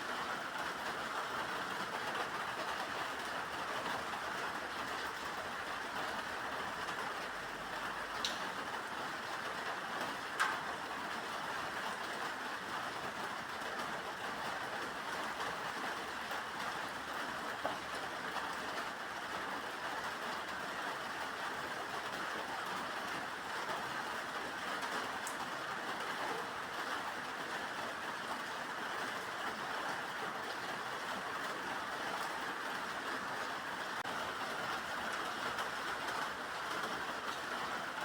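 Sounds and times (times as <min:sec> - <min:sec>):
steady rain hiss: 0:00.0 - 0:38.0
sharp raindrops: 0:00.1 - 0:38.0.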